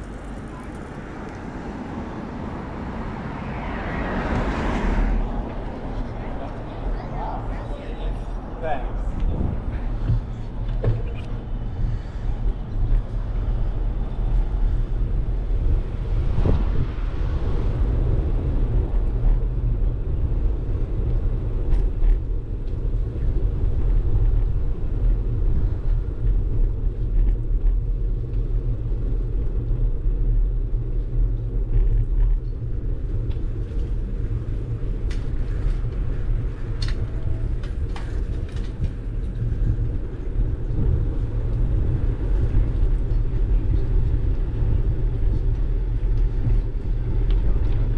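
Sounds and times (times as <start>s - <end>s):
wind on microphone: 0.0s - 28.1s, 29.8s - 47.9s
bicycle tyres on asphalt: 0.0s - 47.9s.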